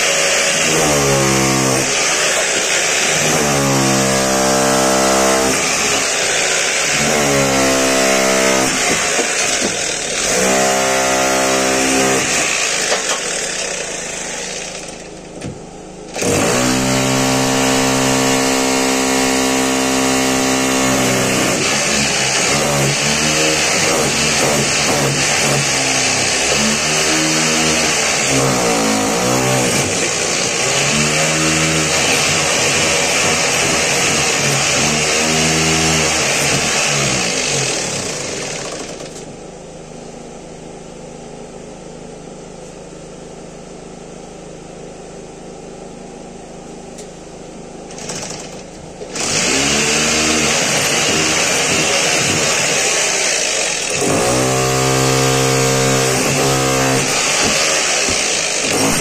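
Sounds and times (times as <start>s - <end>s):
power drill drilling into masonry: 0.0s - 15.2s, 16.1s - 39.2s, 47.9s - 59.0s.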